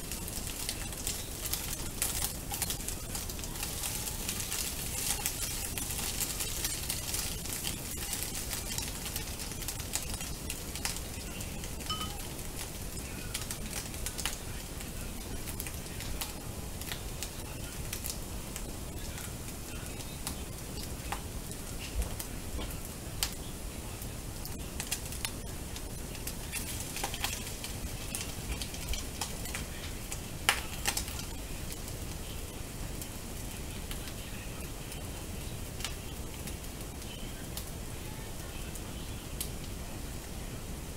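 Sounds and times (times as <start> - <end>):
sharp pops and crackles: 0.0 - 23.5, 24.4 - 37.8
eggs sizzling in a pan: 0.0 - 40.9.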